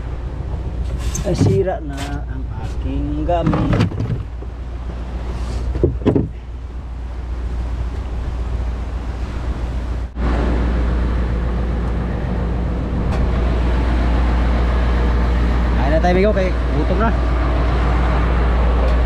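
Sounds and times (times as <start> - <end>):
boat engine running: 0.0 - 19.0
wind and water rushing: 0.0 - 19.0.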